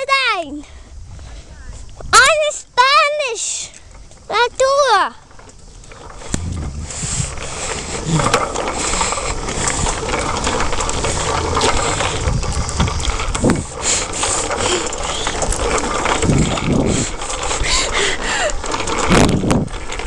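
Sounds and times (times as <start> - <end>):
bicycle rumble and rattle: 0.0 - 20.0.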